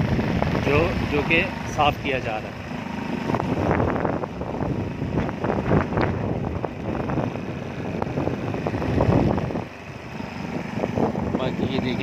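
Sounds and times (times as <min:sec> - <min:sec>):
wind buffeting microphone: 0:00.0 - 0:02.2, 0:03.0 - 0:12.0
vehicle rumble and road noise: 0:00.0 - 0:12.0.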